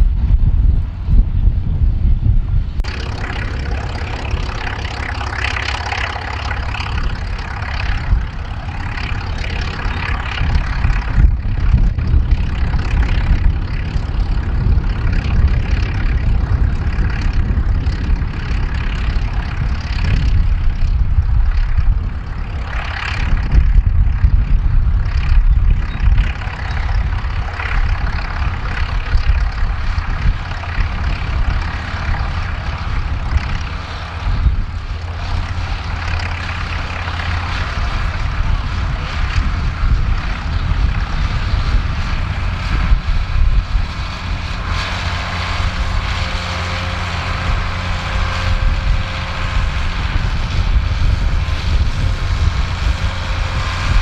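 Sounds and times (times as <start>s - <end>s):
tractor diesel engines drone: 0.0s - 54.0s.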